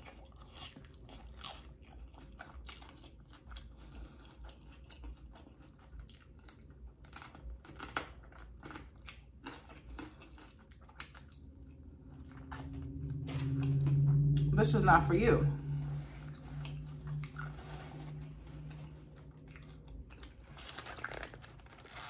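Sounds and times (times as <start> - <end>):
chewing crunches: 0.0 - 13.0, 16.2 - 22.0.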